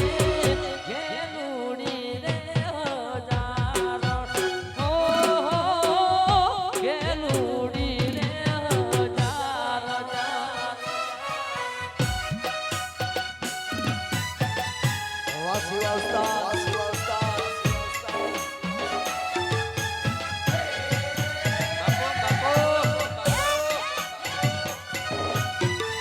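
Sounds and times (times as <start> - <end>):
steady drum beat: 0.0 - 0.9, 2.2 - 9.6, 12.0 - 26.0.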